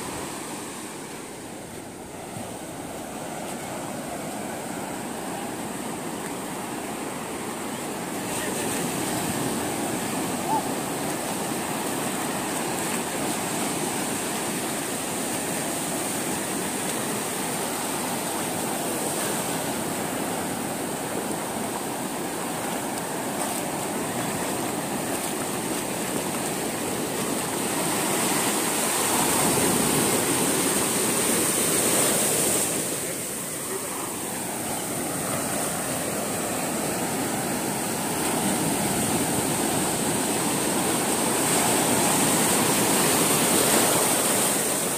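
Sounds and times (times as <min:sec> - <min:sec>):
small waves breaking on sand: 0:00.0 - 0:44.9.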